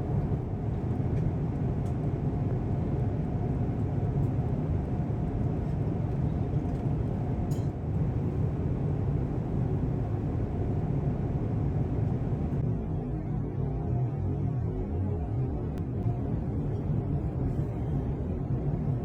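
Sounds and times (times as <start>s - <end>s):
airplane cabin engine rumble: 0.0s - 13.8s, 15.5s - 19.0s.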